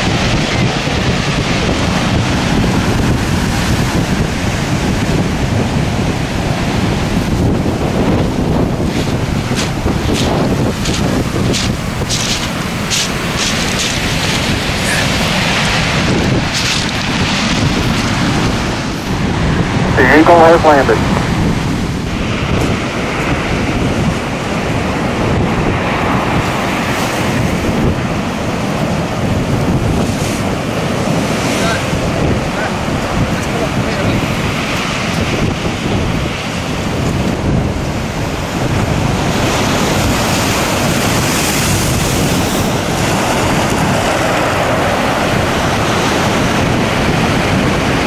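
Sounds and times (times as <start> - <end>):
waves breaking on a wall: 0.0 - 48.0
wind buffeting microphone: 0.0 - 48.0.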